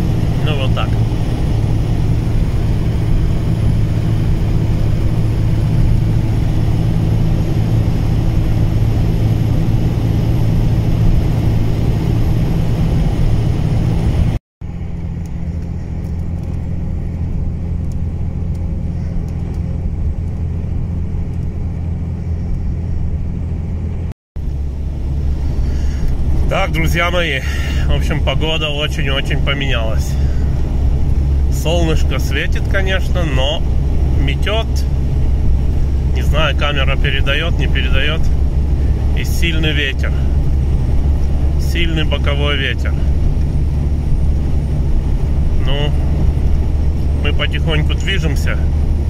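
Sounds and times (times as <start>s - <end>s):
engine and road noise in cab: 0.0s - 49.0s
low hum: 0.0s - 49.0s.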